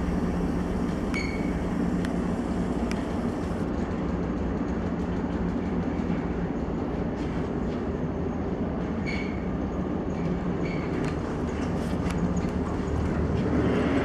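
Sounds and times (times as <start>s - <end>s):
ship machinery rumble: 0.0s - 14.0s.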